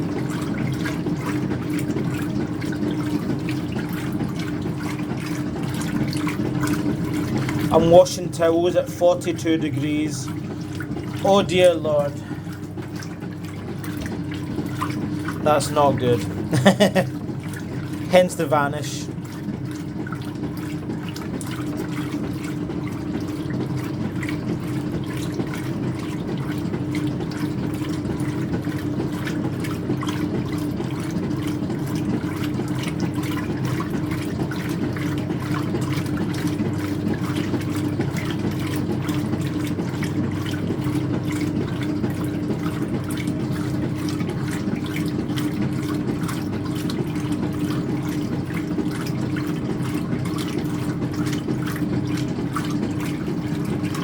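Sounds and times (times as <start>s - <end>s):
washer motor hum: 0.0s - 54.0s
water sloshing: 0.0s - 54.0s.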